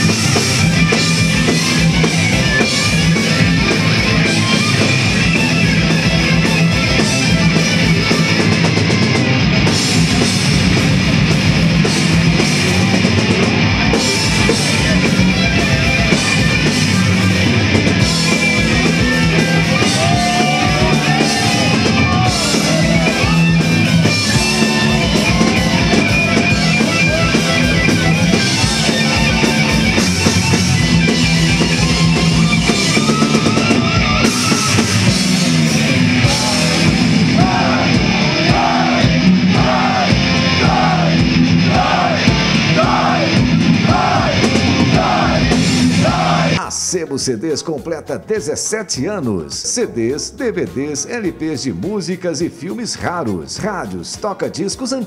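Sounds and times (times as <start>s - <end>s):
loud rock music: 0.0s - 55.0s.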